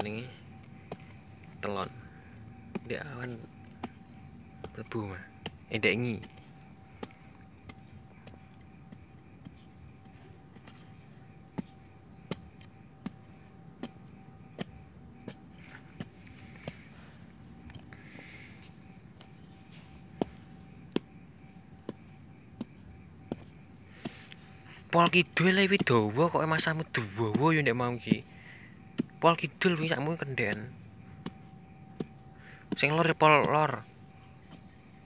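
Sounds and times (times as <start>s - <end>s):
crickets chirping: 0.0s - 35.0s
soil being dug by hand: 0.0s - 35.0s.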